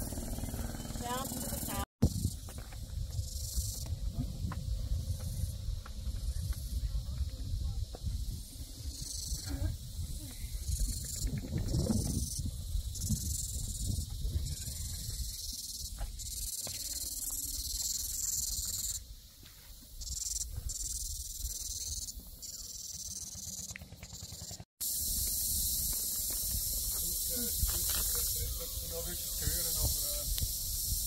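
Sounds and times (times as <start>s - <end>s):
cicadas buzzing: 0.0s - 31.0s.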